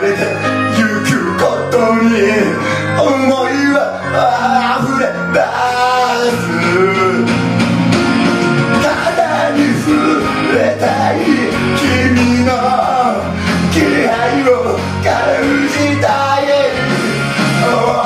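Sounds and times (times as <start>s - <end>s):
man singing into microphone: 0.0s - 7.4s, 8.8s - 18.0s
karaoke backing track: 0.0s - 18.0s.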